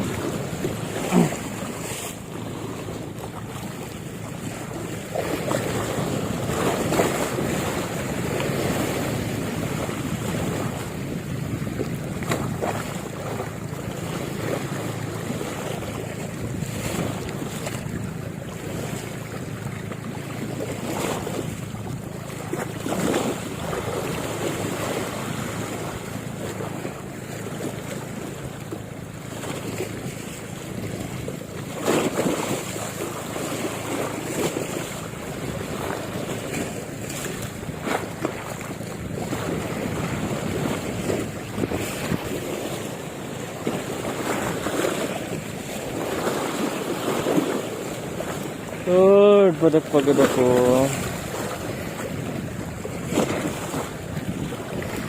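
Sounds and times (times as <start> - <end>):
wind buffeting microphone: 0.0 - 48.9, 49.8 - 55.0
water and waves: 0.0 - 55.0.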